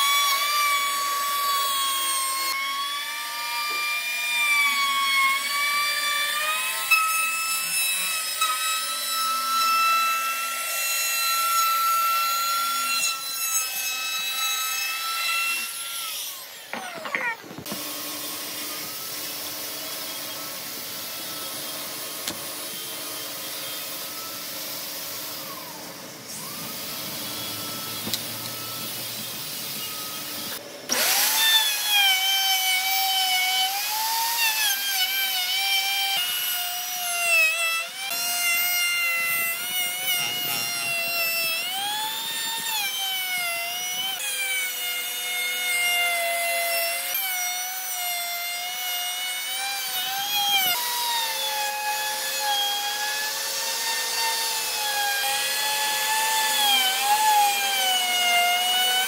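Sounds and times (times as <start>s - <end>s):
power tool motor whine: 0.0s - 59.0s.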